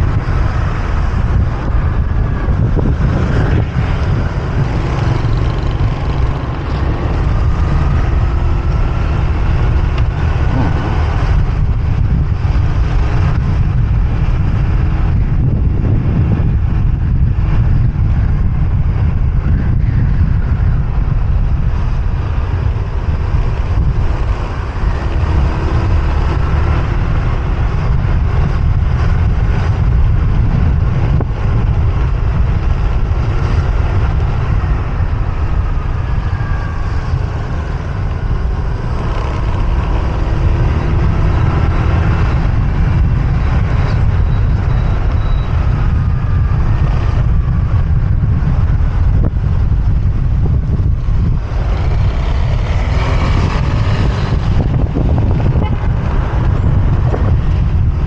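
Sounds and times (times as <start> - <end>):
motorbike engine revving: 0.0 - 58.0
wind rumble on microphone: 0.0 - 58.0.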